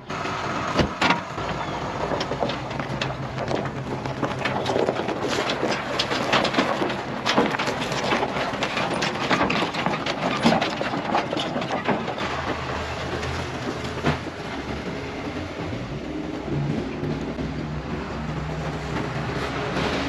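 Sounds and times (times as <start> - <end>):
engine humming: 0.0 - 20.0
metal rattling and clanking: 0.1 - 20.0.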